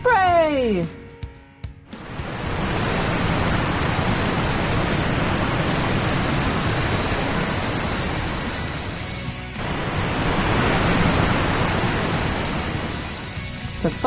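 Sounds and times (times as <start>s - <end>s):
water hose spraying: 2.0s - 14.0s.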